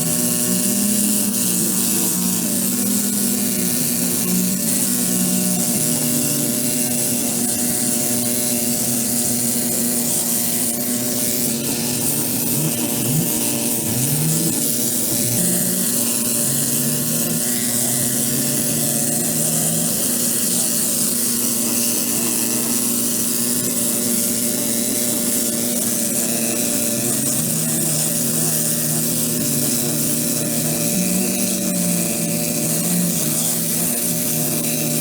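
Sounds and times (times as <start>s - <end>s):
motor-driven tool running: 0.0s - 35.0s.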